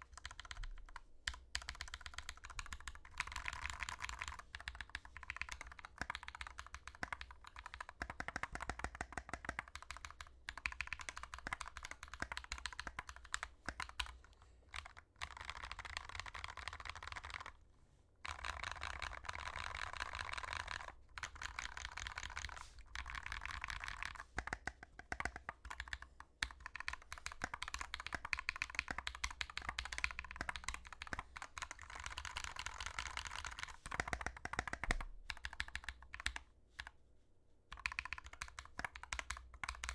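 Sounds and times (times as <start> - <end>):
mechanical keyboard typing: 0.0 - 17.6, 18.2 - 36.9, 37.7 - 39.9.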